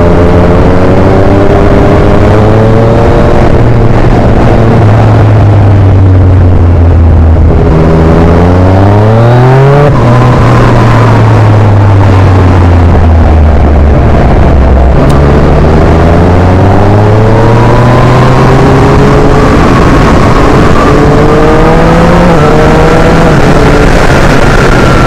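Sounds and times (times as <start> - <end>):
motorcycle engine revving: 0.0 - 25.0
wind noise on microphone: 0.0 - 25.0.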